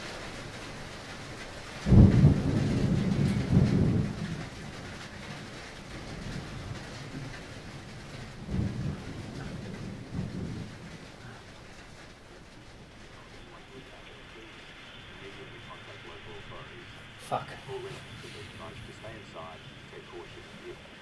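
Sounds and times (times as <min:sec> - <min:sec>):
rain hissing: 0:00.0 - 0:21.0
thunder rumbling: 0:00.0 - 0:21.0.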